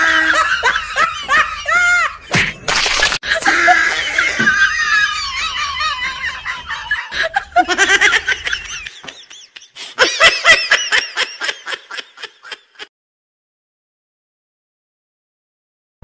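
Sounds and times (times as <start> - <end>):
high-pitched laughter: 0.0 - 12.9.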